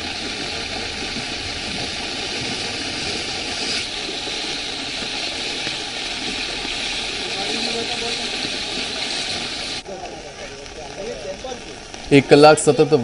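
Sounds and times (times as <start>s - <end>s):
engine-driven water pump running: 0.0s - 11.6s
steady hiss: 0.0s - 13.0s.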